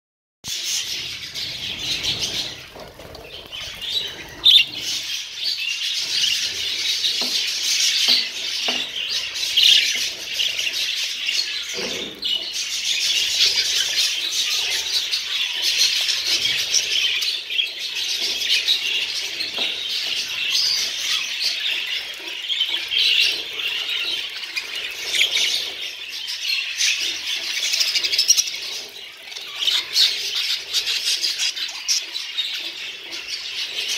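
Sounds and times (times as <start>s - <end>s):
budgerigars chattering and chirping: 0.5s - 33.9s.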